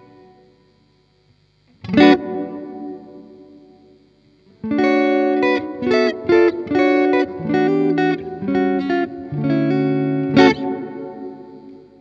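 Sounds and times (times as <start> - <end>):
electric guitar with reverb: 0.0 - 12.0.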